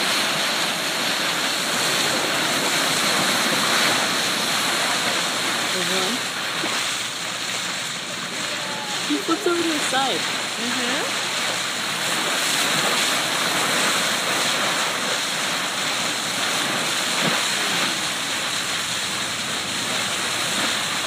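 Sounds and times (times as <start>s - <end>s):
water rushing at bow: 0.0s - 21.0s.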